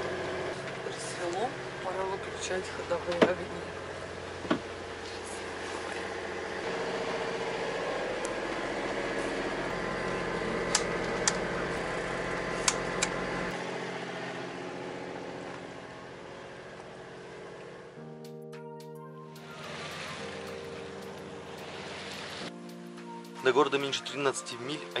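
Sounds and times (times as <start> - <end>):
boat engine running: 0.0 - 18.0, 19.4 - 22.8.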